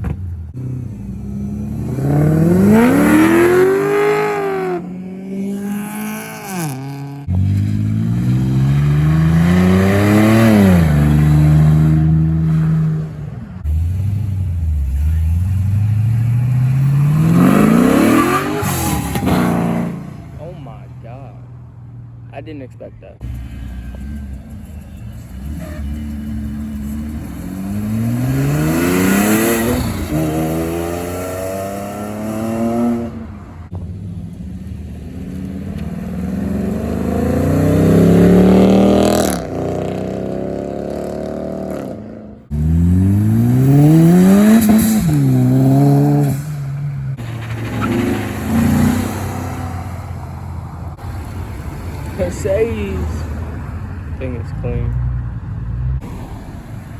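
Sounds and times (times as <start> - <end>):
car engines accelerating: 0.0 - 56.9.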